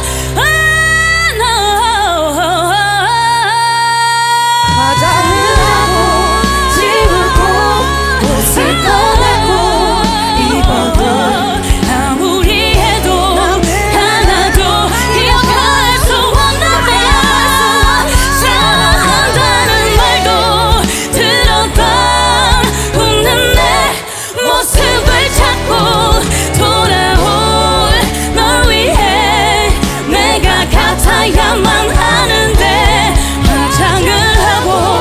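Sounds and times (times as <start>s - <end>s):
bass-heavy backing track: 0.0s - 35.0s
vocal group singing in harmony: 0.0s - 35.0s.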